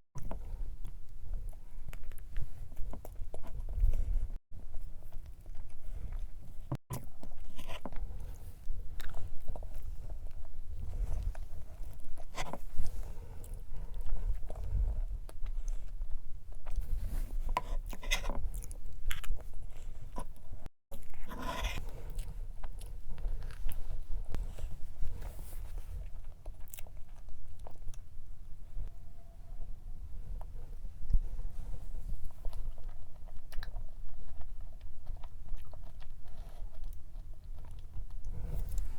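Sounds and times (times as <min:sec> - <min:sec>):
chewing and biting: 0:00.2 - 0:28.2, 0:32.1 - 0:38.9.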